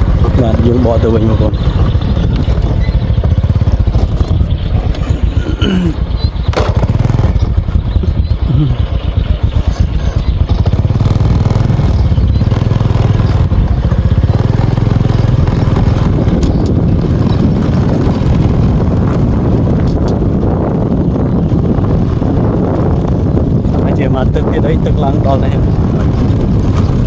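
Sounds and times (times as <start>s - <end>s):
small engine running: 0.0s - 27.0s
wind on microphone rumble: 0.0s - 27.0s.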